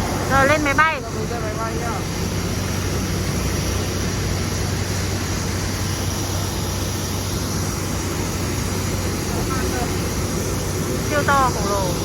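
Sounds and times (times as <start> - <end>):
engine hum and hiss: 0.0 - 12.0.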